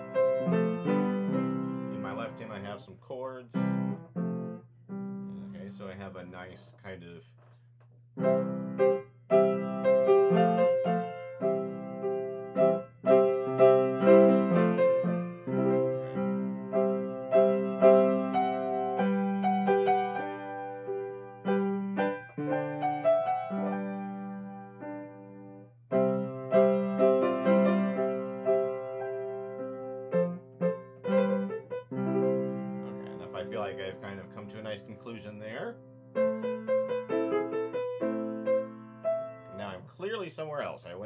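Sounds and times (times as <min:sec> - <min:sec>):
grand piano playing: 0:00.0 - 0:02.8, 0:03.6 - 0:06.2, 0:08.2 - 0:40.4.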